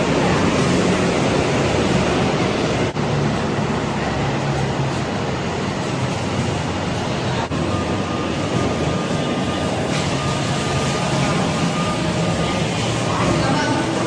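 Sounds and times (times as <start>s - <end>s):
road traffic roar: 0.0s - 14.0s.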